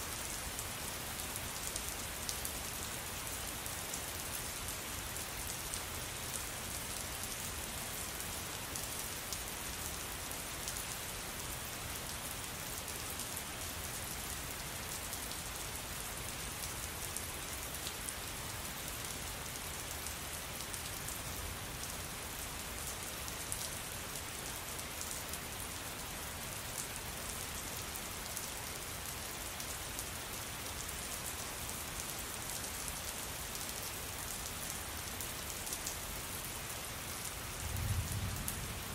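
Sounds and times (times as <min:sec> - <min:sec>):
rain patter on a surface: 0:00.0 - 0:38.9.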